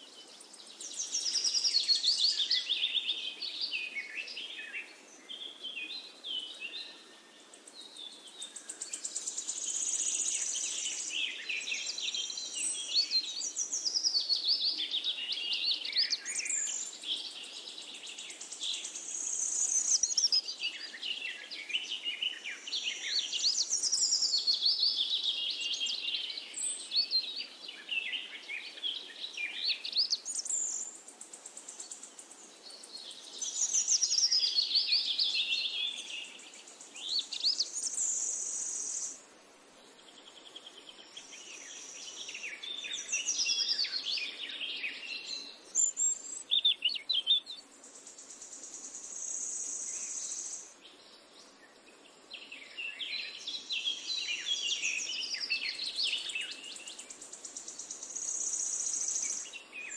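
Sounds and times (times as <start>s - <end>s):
songbirds warbling: 0.0s - 59.9s.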